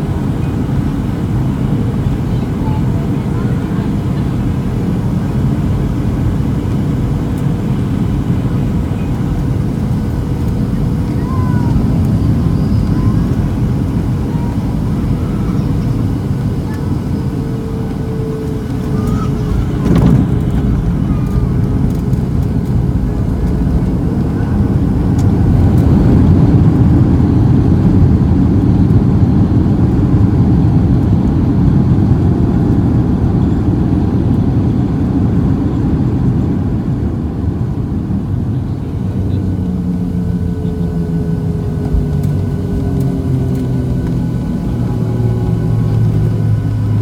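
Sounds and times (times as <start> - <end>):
aircraft engines and airflow rumble: 0.0 - 47.0.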